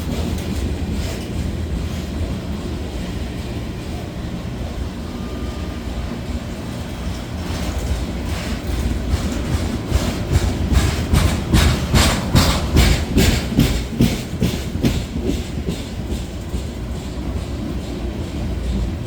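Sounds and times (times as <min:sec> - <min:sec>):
train wheels clicking over rail joints: 0:00.0 - 0:04.8, 0:06.0 - 0:19.0
train rumble: 0:00.0 - 0:19.0.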